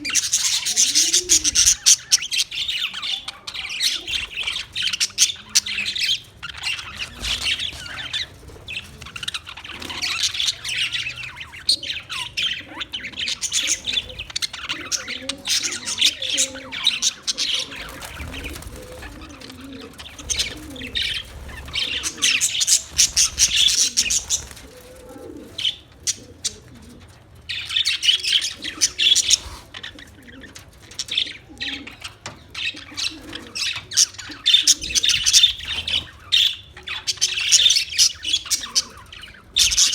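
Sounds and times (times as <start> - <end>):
parrots chattering and chirping: 0.0 - 39.9.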